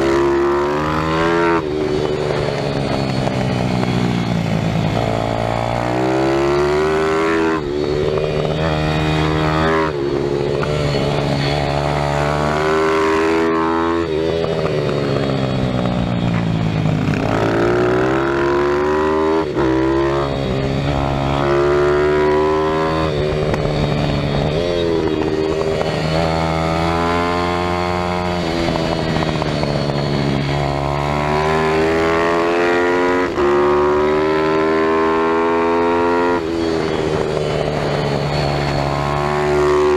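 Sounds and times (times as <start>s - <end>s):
motorbike engine revving: 0.0s - 39.9s
wind noise: 0.0s - 39.9s.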